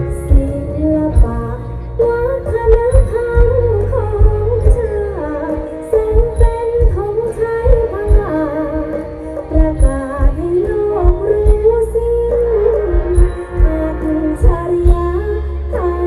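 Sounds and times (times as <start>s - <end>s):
bass drum beat: 0.0s - 8.6s, 9.6s - 11.8s, 12.9s - 15.2s
live band over loudspeakers: 0.0s - 16.0s.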